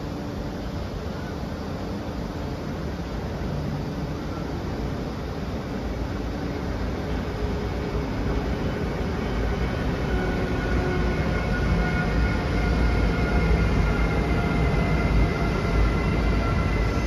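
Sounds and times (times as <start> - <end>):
faint high whine: 0.0 - 17.0
freight train rumble: 0.0 - 17.0.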